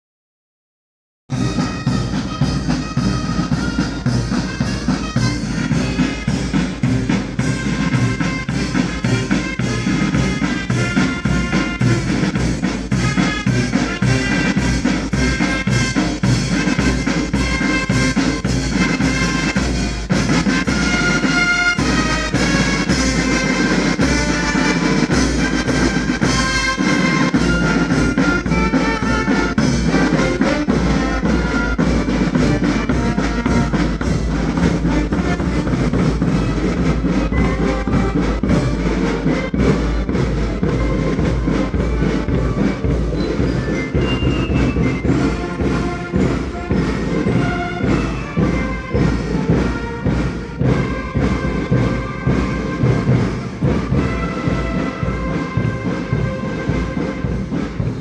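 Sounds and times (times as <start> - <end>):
bass and snare drums marching beat: 1.3 - 58.0
saxophones and brass horns playing: 1.3 - 58.0.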